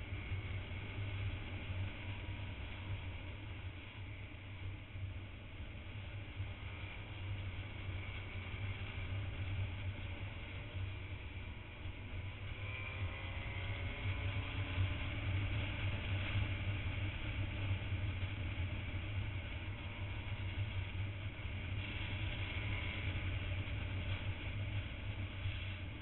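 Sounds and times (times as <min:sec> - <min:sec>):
motorcycle engine drone: 0:00.0 - 0:26.0.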